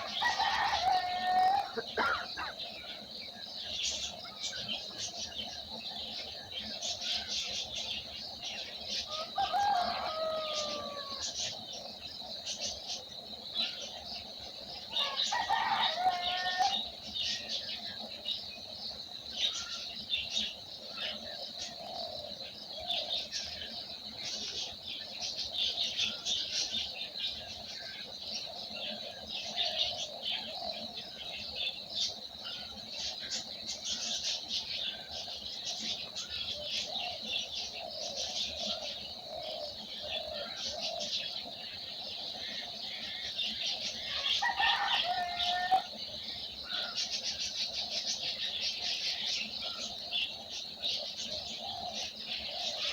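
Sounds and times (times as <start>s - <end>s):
long falling bird calls: 0.0s - 18.2s, 19.0s - 52.9s
small birds chirping: 0.0s - 52.9s.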